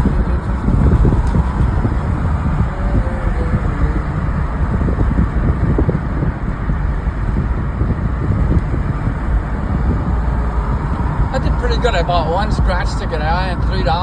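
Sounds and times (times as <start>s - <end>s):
road and engine rumble: 0.0s - 14.0s
wind: 0.0s - 14.0s.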